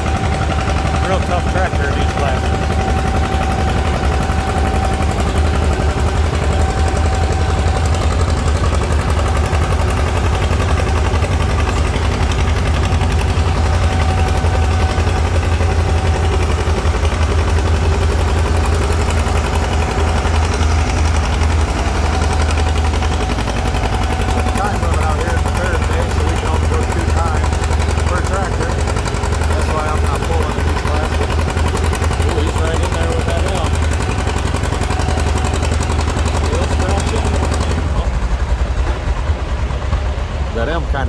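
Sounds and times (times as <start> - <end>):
tractor engine running under load: 0.0 - 41.0.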